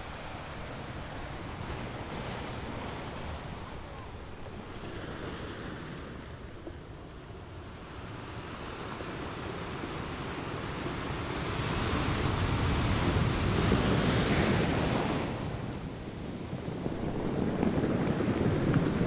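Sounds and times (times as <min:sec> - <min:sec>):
steady hiss of sea: 0:00.0 - 0:19.0
surf surging: 0:00.0 - 0:19.0.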